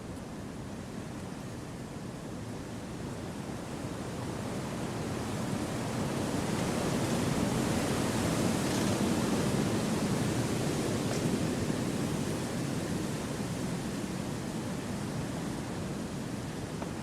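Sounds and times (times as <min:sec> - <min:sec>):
wind through forest trees: 0:00.0 - 0:17.0.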